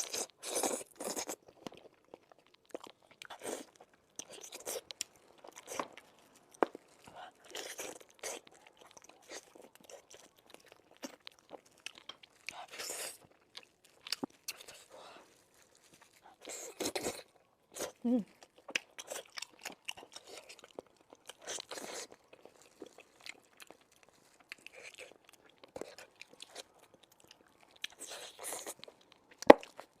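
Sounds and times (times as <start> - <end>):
person chewing meat: 0.0 - 30.0.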